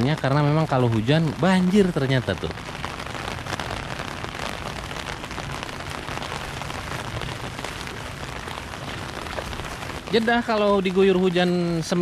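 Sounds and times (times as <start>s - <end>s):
rain on a wet street: 0.0s - 12.0s
rain on an umbrella: 0.0s - 12.0s.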